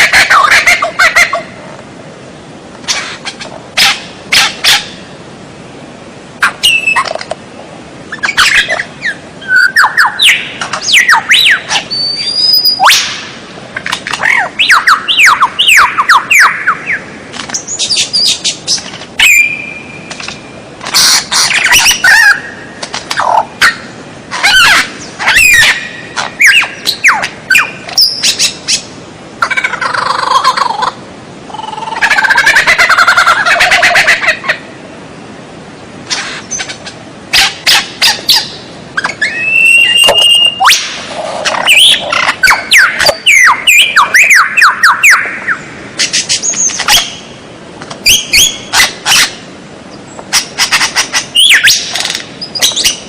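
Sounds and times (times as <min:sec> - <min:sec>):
songbird singing: 0:06.4 - 0:34.8, 0:35.7 - 0:53.0.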